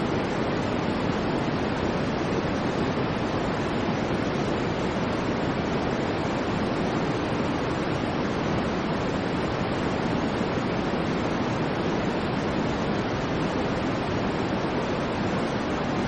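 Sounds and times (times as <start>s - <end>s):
steady white noise: 0.0s - 16.0s.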